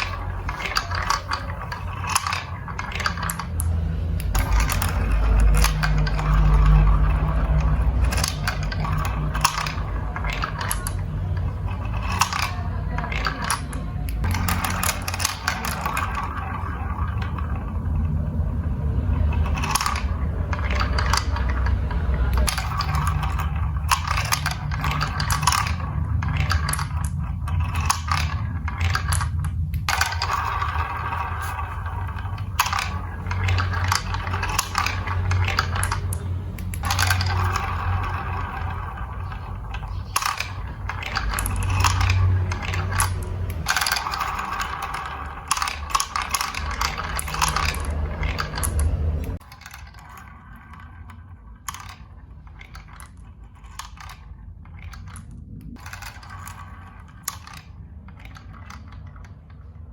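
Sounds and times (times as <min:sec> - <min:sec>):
steady low rumble: 0:00.0 - 0:49.4, 0:50.4 - 0:59.9
marbles clicking and clacking: 0:00.0 - 0:59.9
marbles rolling on plastic track: 0:00.0 - 0:59.9.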